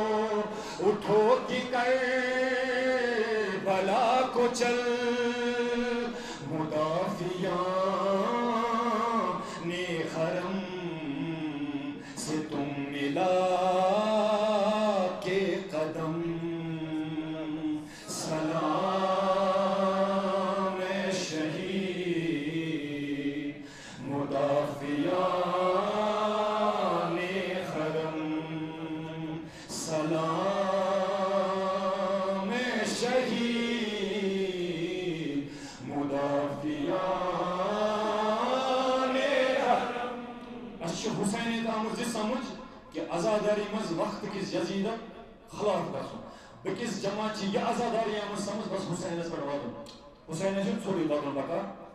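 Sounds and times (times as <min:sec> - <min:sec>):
man chanting into a microphone: 0:00.0 - 0:51.9.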